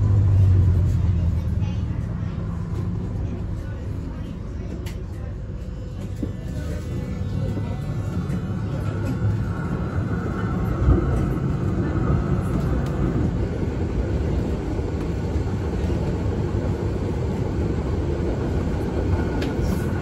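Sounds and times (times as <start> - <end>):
tram wheels rumbling on rail: 0.0 - 20.0.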